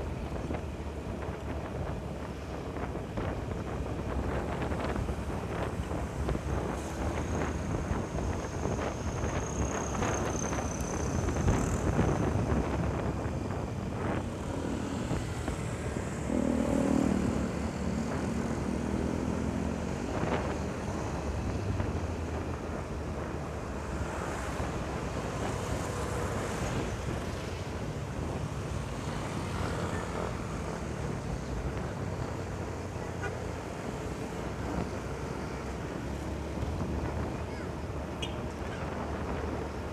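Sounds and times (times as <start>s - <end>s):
motorcycle riding noise: 0.0s - 39.9s.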